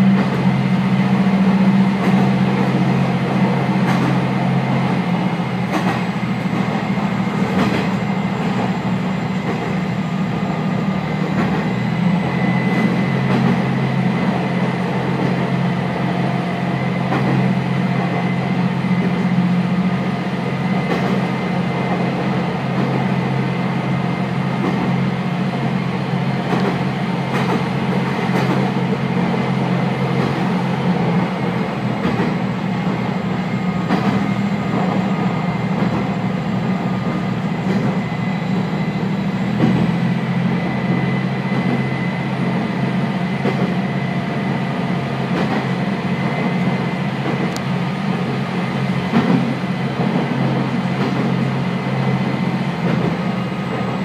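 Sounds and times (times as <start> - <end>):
diesel engine drone: 0.0 - 54.0
wheels rumbling on rail: 0.0 - 54.0.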